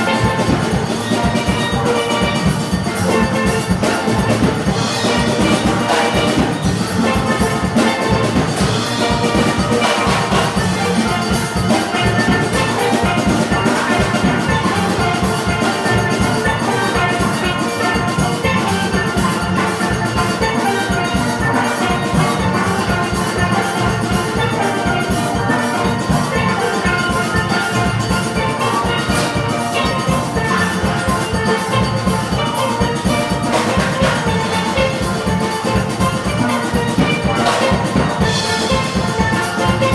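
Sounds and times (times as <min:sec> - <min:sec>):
drums and percussion beat: 0:00.0 - 0:39.9
steel orchestra playing: 0:00.0 - 0:39.9.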